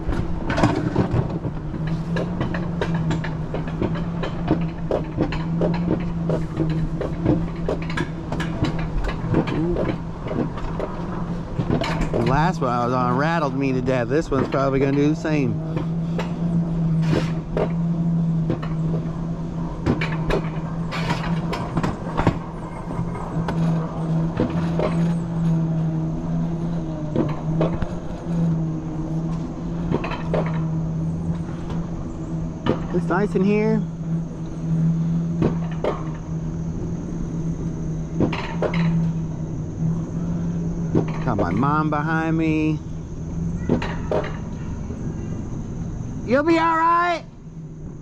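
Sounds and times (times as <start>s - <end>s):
sled clacking and rattling on rails: 0.0s - 47.5s
sled humming on rail track: 0.0s - 48.0s.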